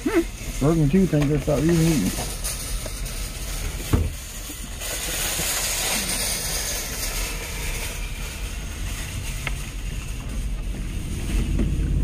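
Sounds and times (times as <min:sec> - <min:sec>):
low rumble: 0:00.0 - 0:12.0
steady rushing hiss: 0:00.0 - 0:12.0.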